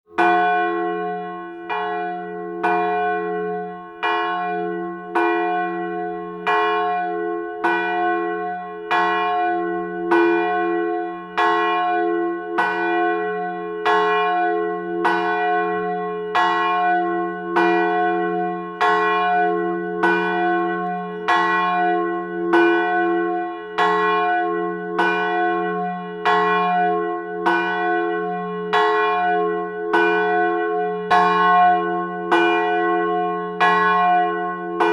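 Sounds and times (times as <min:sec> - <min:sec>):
church bell tolling: 0:00.1 - 0:34.9.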